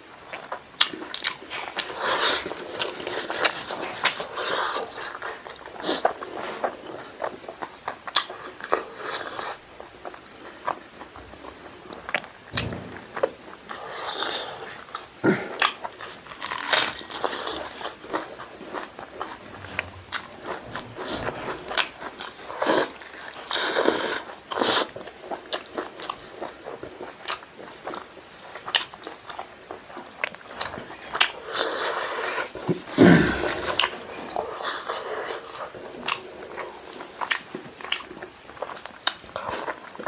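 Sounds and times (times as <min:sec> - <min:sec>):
person chewing and biting food: 0:00.3 - 0:40.0.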